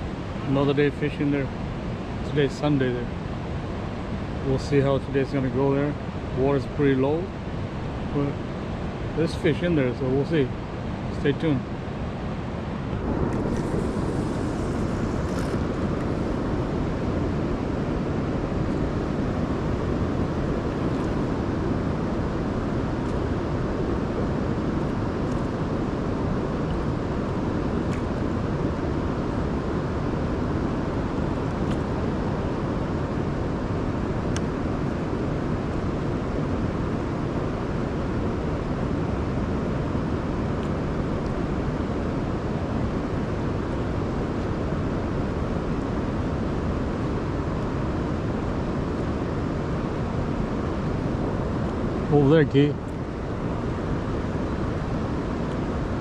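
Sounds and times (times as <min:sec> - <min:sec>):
river current rushing: 0:10.6 - 0:56.0.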